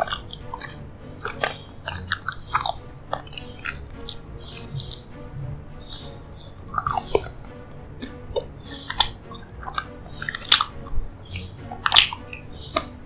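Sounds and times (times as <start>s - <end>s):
wet chewing: 0.0s - 12.9s
faint background music: 0.0s - 13.0s
mouth smacks and clicks: 0.0s - 13.0s.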